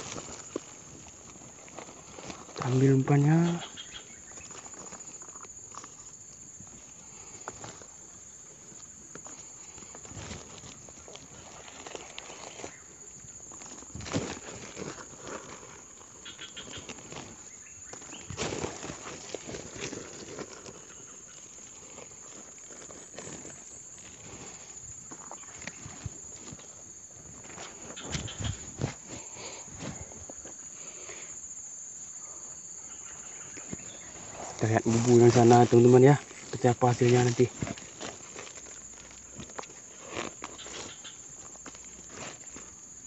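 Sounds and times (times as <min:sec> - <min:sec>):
plastic sack rustling: 0:00.0 - 0:03.2, 0:08.6 - 0:30.6, 0:33.7 - 0:43.0
insects chirring: 0:00.0 - 0:43.0.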